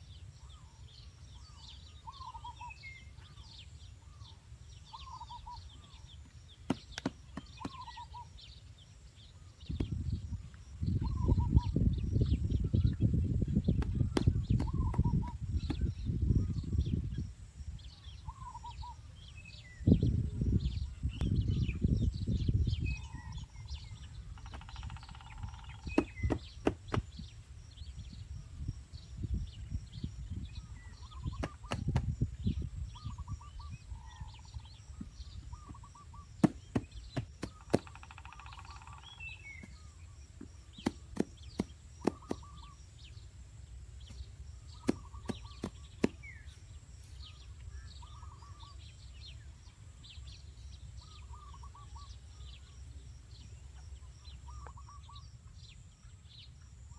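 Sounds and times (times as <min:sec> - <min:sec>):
birds trilling: 0:00.0 - 0:28.2, 0:29.5 - 0:43.4, 0:44.0 - 0:56.9.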